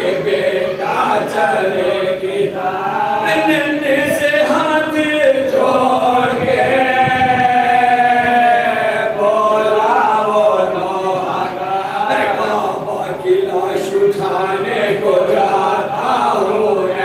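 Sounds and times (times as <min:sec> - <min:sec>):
men chanting together: 0:00.0 - 0:17.0.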